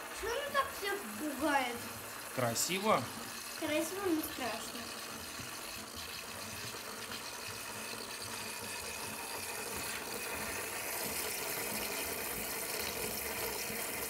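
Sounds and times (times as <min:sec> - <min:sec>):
coffee machine frothing milk: 0:00.0 - 0:14.0.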